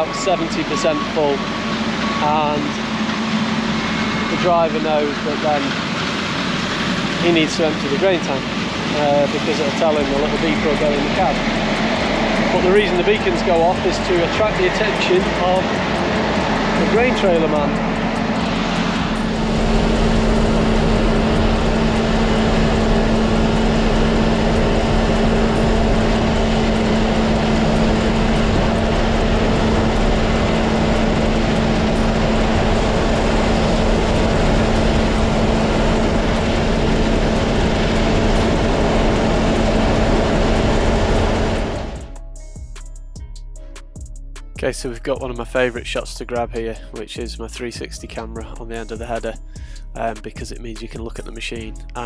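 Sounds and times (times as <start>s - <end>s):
combine harvester humming: 0.0s - 42.6s.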